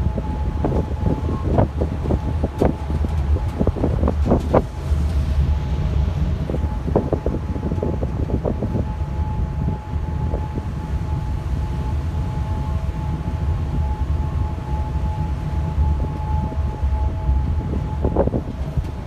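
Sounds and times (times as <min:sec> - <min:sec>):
ship engines rumbling: 0:00.0 - 0:19.0
wind buffeting microphone: 0:00.0 - 0:19.0.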